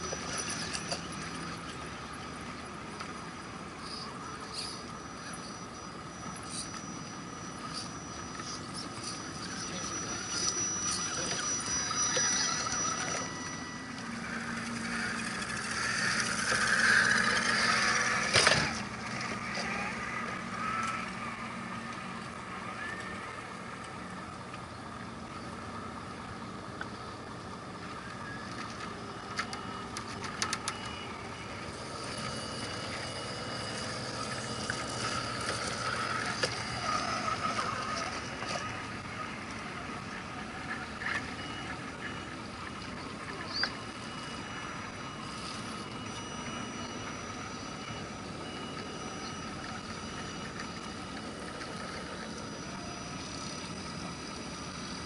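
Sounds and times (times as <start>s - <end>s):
electric motor whine: 0.0s - 55.0s.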